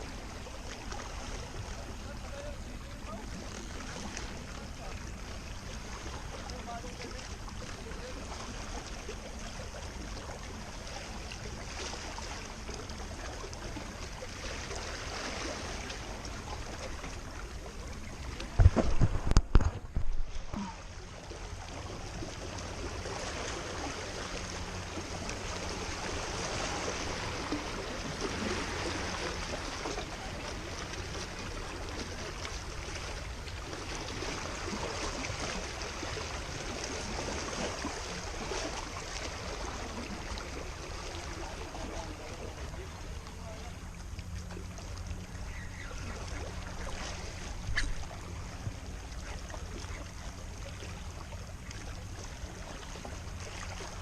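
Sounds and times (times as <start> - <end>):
moving water: 0.0 - 54.0.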